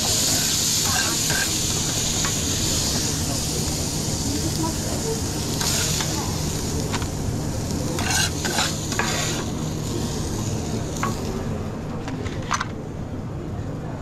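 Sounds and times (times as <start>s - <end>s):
food sizzling in a pan: 0.0s - 11.5s
low kitchen hum: 0.0s - 14.0s.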